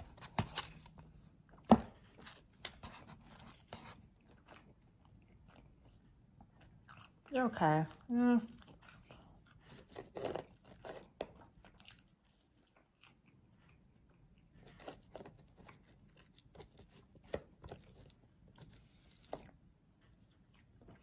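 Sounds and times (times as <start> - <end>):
chewing and biting food: 3.3 - 21.0.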